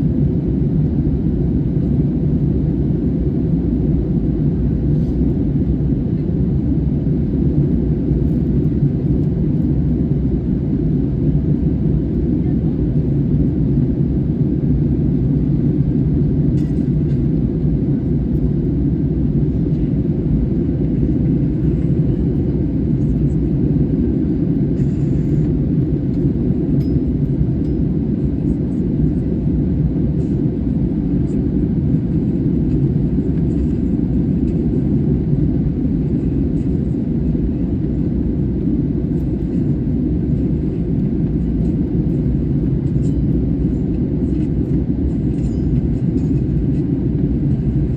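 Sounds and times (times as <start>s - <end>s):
jet airliner rumble: 0.0s - 47.9s.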